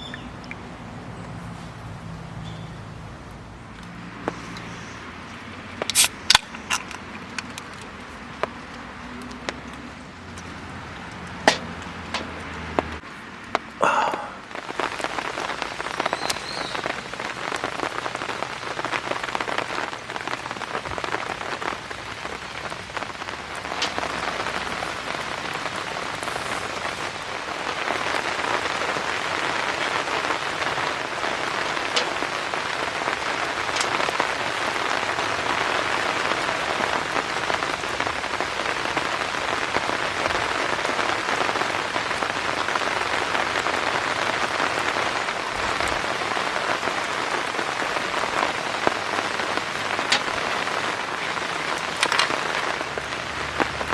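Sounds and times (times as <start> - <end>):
rain pattering on a tarp: 0.0 - 53.9.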